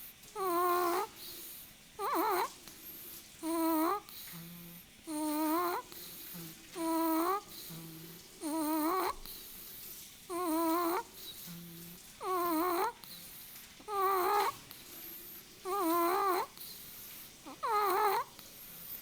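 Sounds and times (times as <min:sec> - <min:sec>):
squawking snoring: 0:00.0 - 0:19.0.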